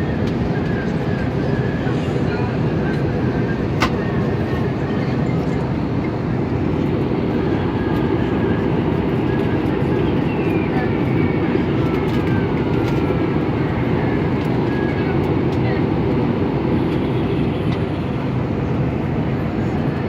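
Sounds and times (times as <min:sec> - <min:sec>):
airplane cabin roar: 0:00.0 - 0:20.0.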